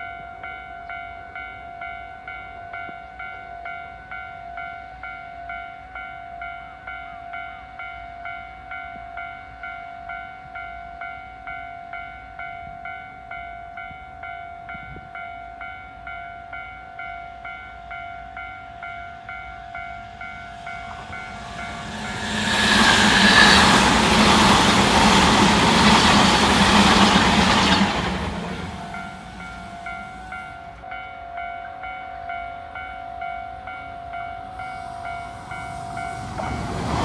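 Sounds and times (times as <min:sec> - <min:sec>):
electric train passing at speed: 0:00.0 - 0:37.0
level crossing warning bell: 0:00.0 - 0:37.0.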